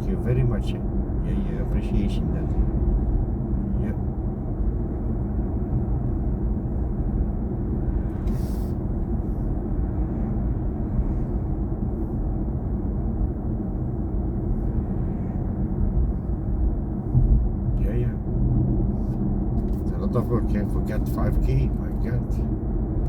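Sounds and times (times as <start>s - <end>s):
road and tyre rumble: 0.0s - 23.0s.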